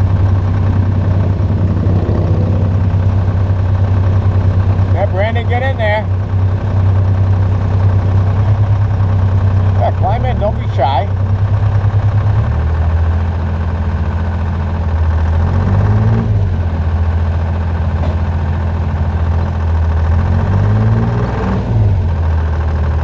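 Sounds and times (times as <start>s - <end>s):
heavy equipment engine running: 0.0s - 23.0s.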